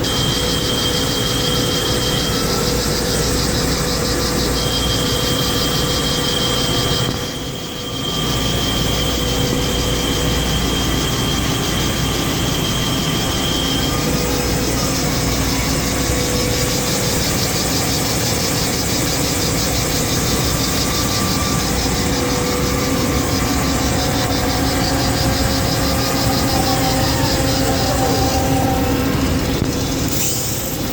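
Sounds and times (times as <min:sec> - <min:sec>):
lathe cutting: 0:00.0 - 0:30.9
thin high whine: 0:00.0 - 0:30.9.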